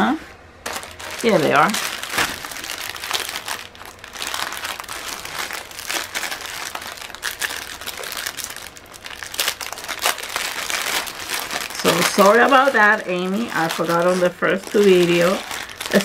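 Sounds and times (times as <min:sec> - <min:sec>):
plastic baggies crinkling: 0:00.6 - 0:16.0.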